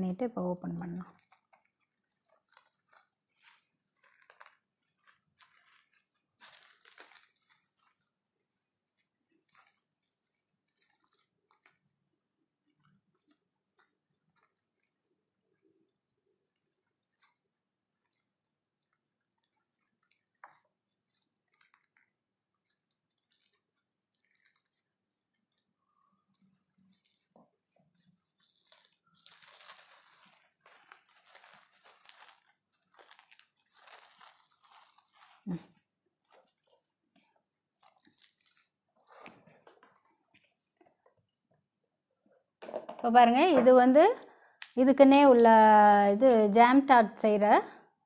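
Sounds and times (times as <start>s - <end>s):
plastic cling film crinkling: 0.0s - 41.8s, 42.6s - 46.6s.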